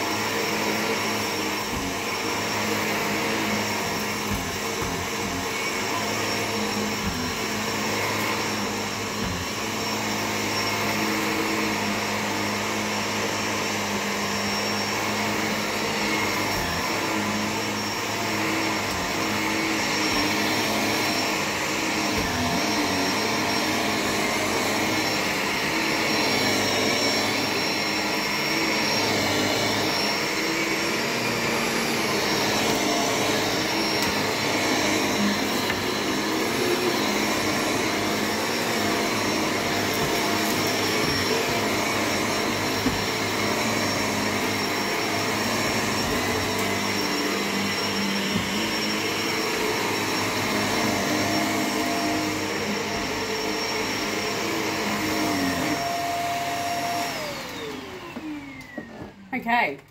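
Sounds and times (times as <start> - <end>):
vacuum cleaner running over carpet: 0.0 - 59.9.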